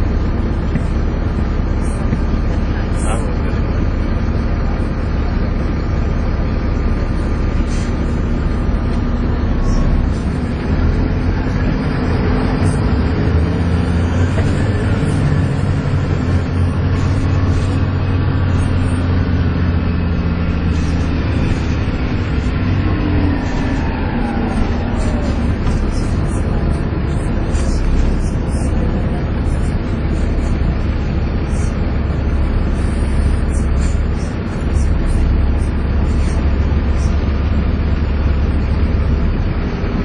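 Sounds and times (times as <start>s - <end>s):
bus diesel engine accelerating: 0.0s - 40.0s
whine over engine: 0.0s - 40.0s.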